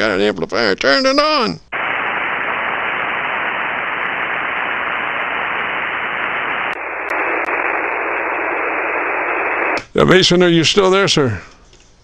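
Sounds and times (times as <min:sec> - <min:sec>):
shortwave receiver hiss: 0:01.0 - 0:11.4.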